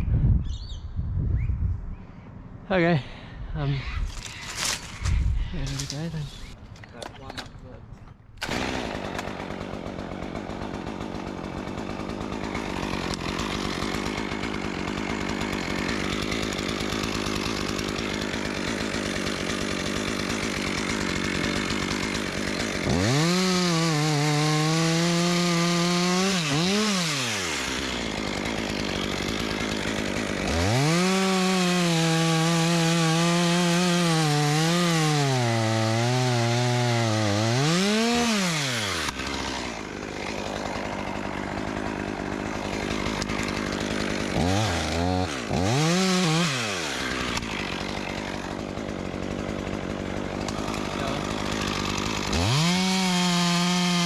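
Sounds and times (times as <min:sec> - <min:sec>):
chainsaw cutting wood: 0:04.0 - 0:07.4, 0:08.4 - 0:54.0.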